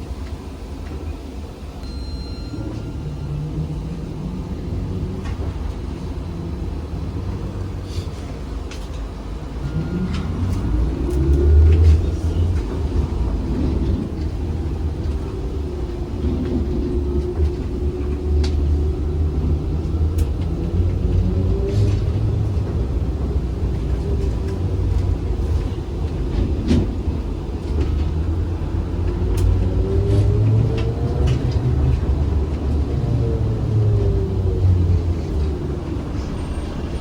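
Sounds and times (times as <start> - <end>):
trolleybus rumble: 0.0 - 37.0.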